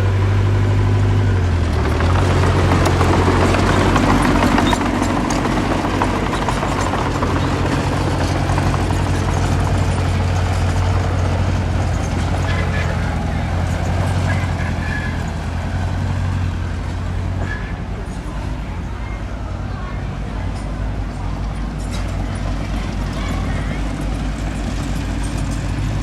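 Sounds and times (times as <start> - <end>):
diesel engine running under work: 0.0 - 26.0.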